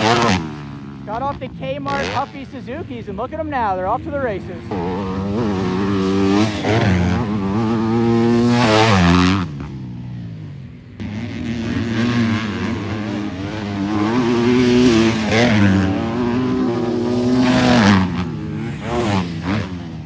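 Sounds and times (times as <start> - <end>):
motocross engines revving: 0.0 - 10.4, 11.0 - 20.0.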